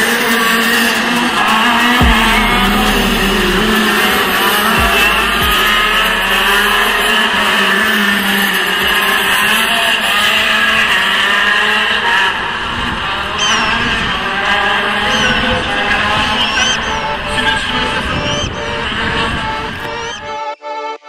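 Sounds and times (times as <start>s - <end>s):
racing kart engines: 0.0s - 19.9s.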